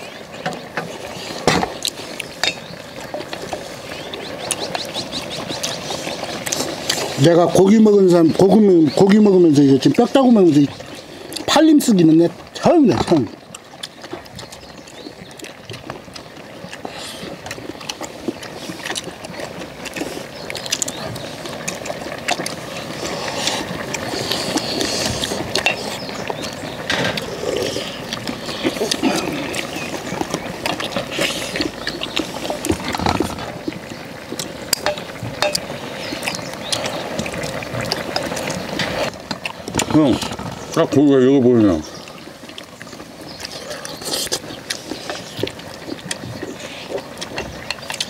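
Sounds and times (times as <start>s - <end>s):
chewing and sucking meat: 0.0s - 7.4s, 10.7s - 11.5s, 13.1s - 40.9s, 41.8s - 48.0s.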